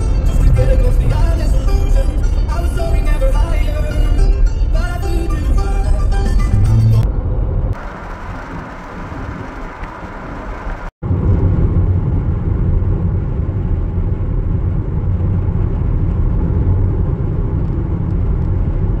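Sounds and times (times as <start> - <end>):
car road rumble inside cabin: 0.0 - 19.0.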